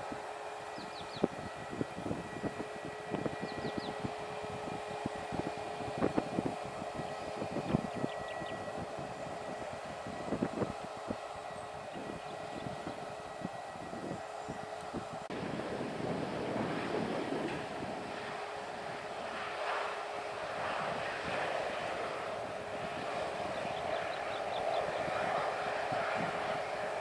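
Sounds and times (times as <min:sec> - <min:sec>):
aircraft engines whining: 0:00.0 - 0:27.0
wind buffeting microphone: 0:00.0 - 0:27.0.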